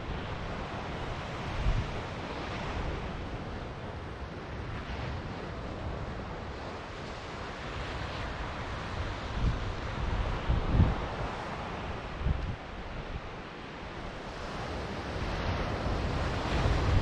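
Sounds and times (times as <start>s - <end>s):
ocean surf washing ashore: 0.0s - 17.0s
wind rumble on microphone: 0.0s - 17.0s.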